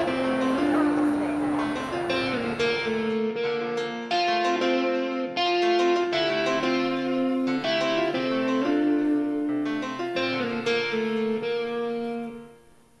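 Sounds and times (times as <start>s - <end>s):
plucked instrumental chords: 0.0s - 12.8s.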